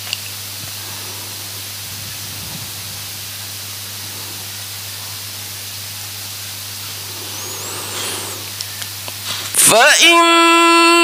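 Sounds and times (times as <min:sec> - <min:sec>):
low electrical hum: 0:00.0 - 0:11.0
microphone hiss: 0:00.0 - 0:11.0.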